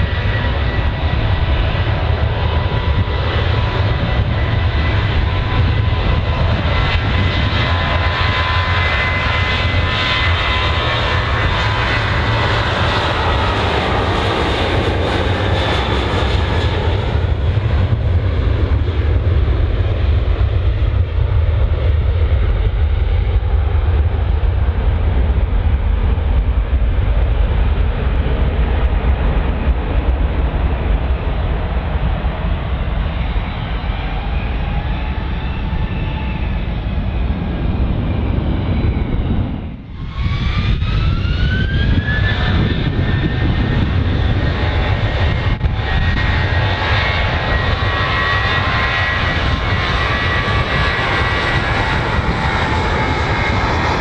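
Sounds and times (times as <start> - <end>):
jet engines whining and rumbling: 0.0 - 54.0.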